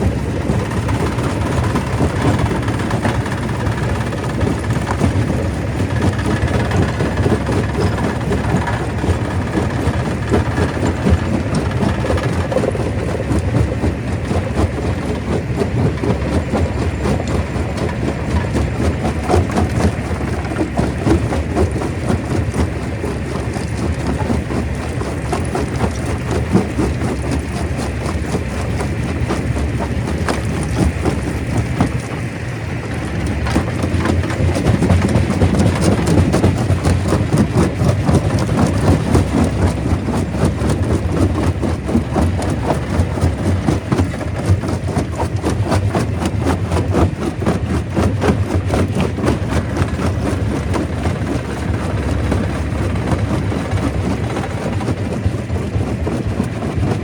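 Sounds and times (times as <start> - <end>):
machinery rumbling: 0.0 - 57.0
rocks rattling and knocking: 0.0 - 57.0.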